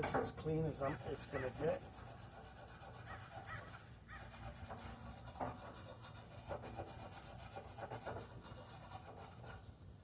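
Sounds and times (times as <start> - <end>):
scratchy rubbing: 0.0 - 9.6.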